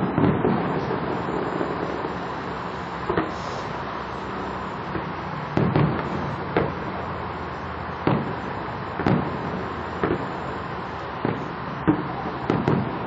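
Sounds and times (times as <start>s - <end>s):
distant fireworks booming: 0.0s - 13.0s
steady background noise: 0.0s - 13.0s.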